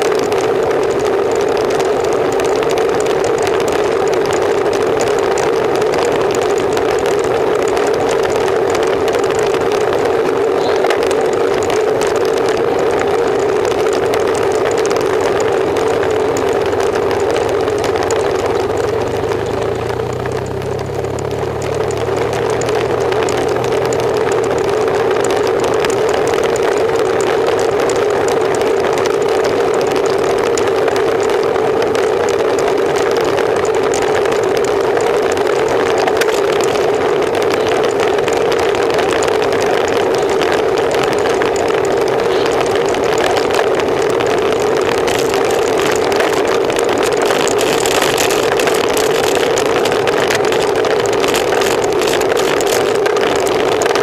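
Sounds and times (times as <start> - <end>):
constant droning tone: 0.0 - 54.0
motorcycle engine at low revs: 0.0 - 54.0
wind and road noise: 0.0 - 54.0.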